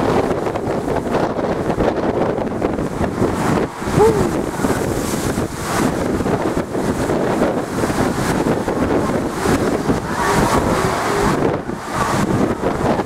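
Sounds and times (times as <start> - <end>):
sea waves breaking on a wall: 0.0 - 13.0
wind buffeting microphone: 0.0 - 13.0.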